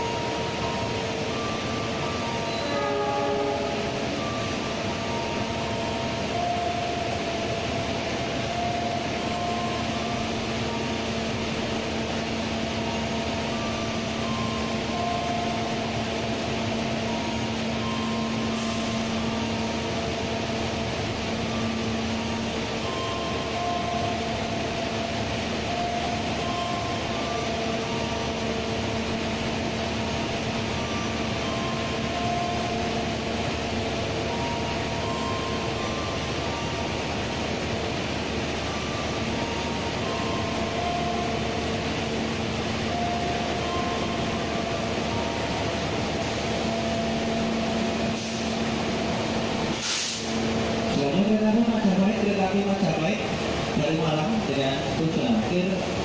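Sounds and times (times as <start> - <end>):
diesel train hum and rumble: 0.0 - 56.0.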